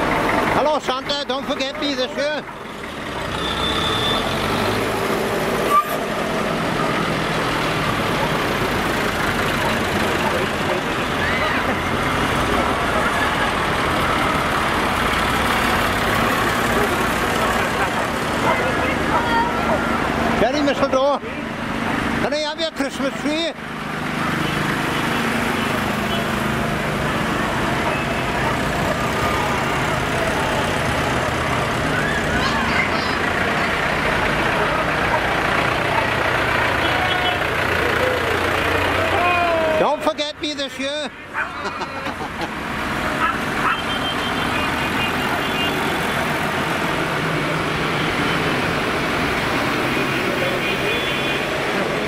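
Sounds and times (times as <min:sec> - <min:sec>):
tractors driving past: 0:00.0 - 0:52.0.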